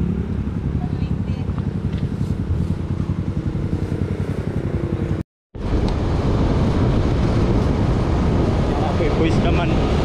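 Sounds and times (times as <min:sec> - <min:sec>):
motorcycle engine running: 0:00.0 - 0:08.7
road noise: 0:00.0 - 0:10.0
wind on microphone: 0:00.0 - 0:10.0.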